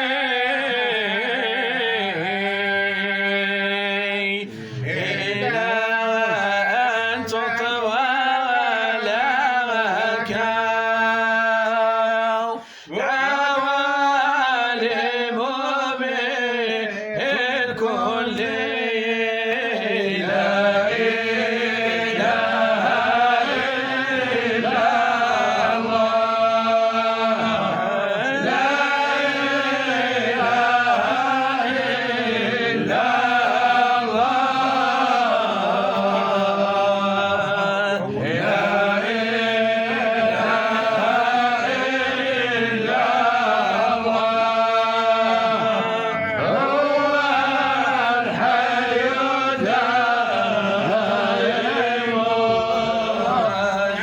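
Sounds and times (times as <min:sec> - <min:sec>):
man chanting melodically: 0:00.0 - 0:54.0.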